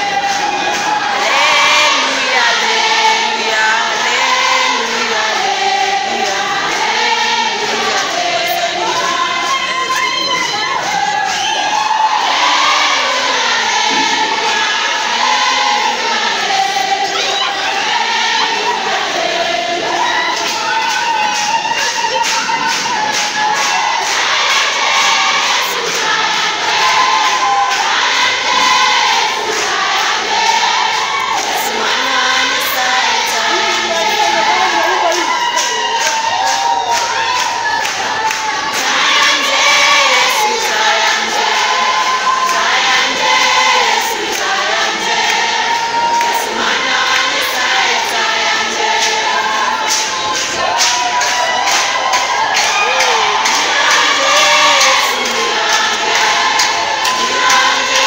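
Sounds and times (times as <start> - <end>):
group singing a praise song: 0.0 - 58.0.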